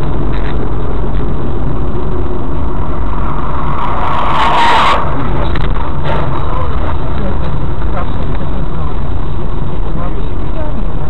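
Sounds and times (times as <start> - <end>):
rushing noise: 0.0 - 11.0
vehicle engine and road noise: 0.0 - 11.0.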